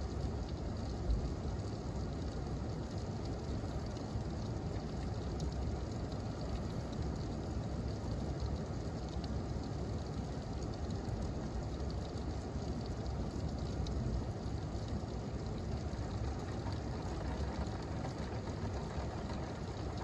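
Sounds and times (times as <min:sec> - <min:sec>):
rain falling steadily: 0:00.0 - 0:20.0
ticks of raindrops: 0:00.0 - 0:20.0.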